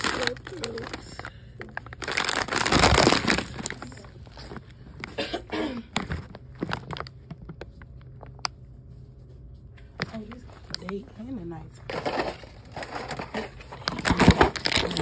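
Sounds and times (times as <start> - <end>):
plastic bags crinkling: 0.0 - 8.5, 9.9 - 15.0.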